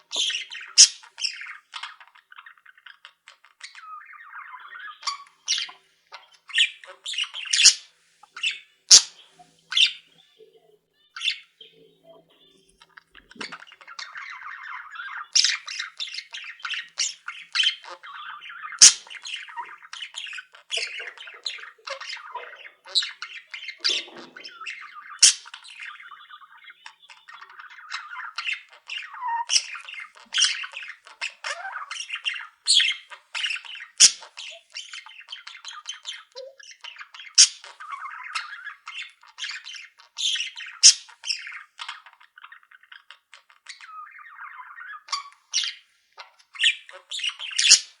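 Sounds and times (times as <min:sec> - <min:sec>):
bird squawks: 0:00.0 - 0:48.0
birds chattering: 0:00.0 - 0:48.0.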